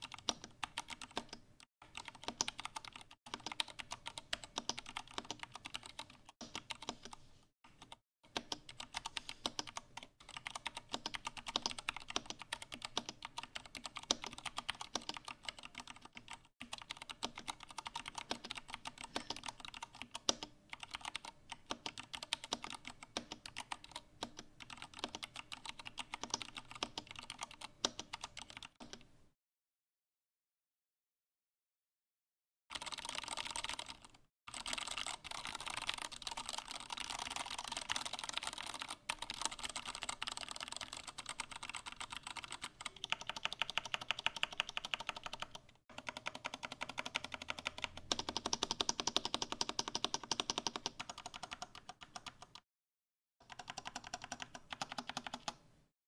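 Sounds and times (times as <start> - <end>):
mechanical keyboard typing: 0.0 - 29.1, 32.7 - 52.6, 53.4 - 55.6.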